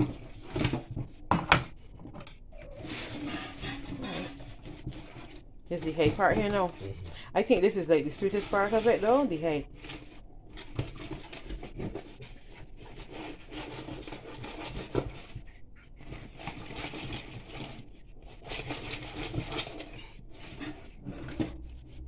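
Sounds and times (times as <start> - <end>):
rustling and handling noises: 0.0 - 22.0.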